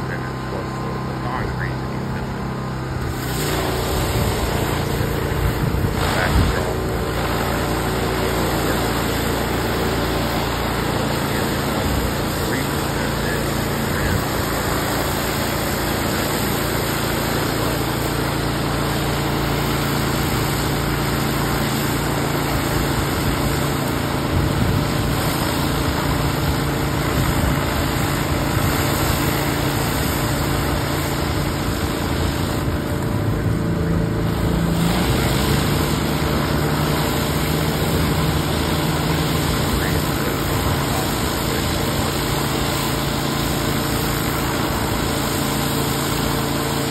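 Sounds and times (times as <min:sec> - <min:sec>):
pressure washer engine running: 0:00.0 - 0:46.9
surface cleaner spray hiss: 0:03.0 - 0:32.9, 0:34.2 - 0:46.9.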